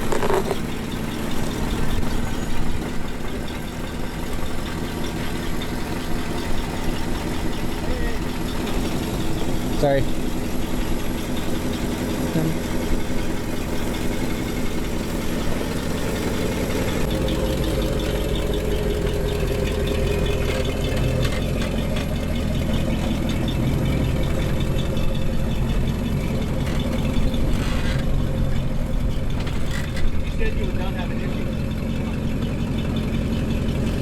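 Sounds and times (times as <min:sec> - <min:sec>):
engine running at low revs: 0:00.0 - 0:34.0.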